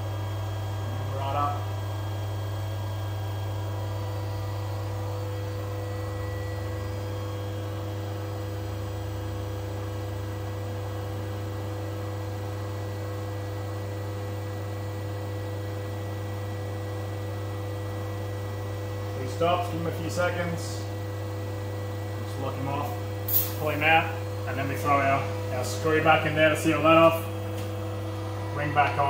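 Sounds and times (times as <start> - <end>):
low electrical hum of machinery: 0.0 - 29.0.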